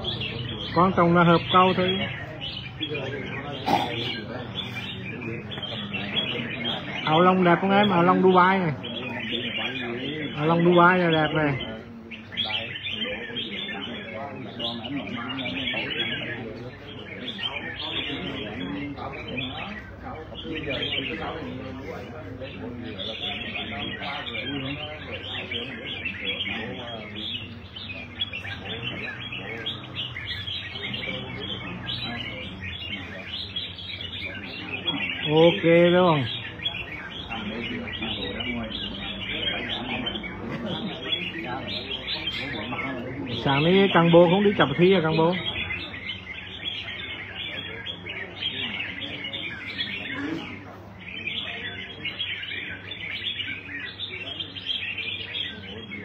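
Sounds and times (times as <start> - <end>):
caged birds singing and chirping: 0.0 - 56.0
low background talk: 0.0 - 56.0.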